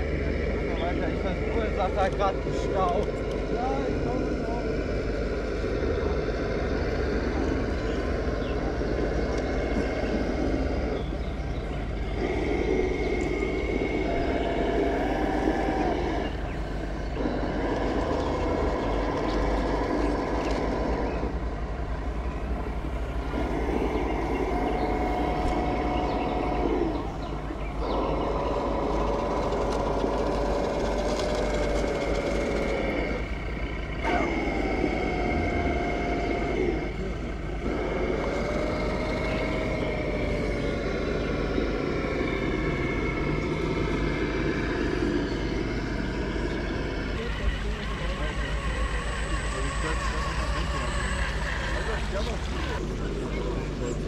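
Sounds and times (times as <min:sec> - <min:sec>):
model vehicle motors whining: 0:00.0 - 0:54.0
steady low rumble: 0:00.0 - 0:54.0.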